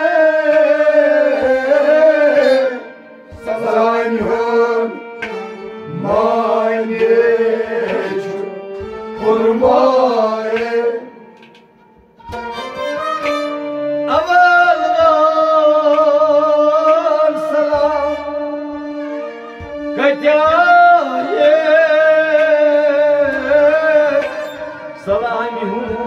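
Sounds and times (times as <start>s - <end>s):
man singing: 0.0s - 11.4s, 13.9s - 18.8s, 19.9s - 26.0s
instrumental accompaniment: 0.0s - 26.0s.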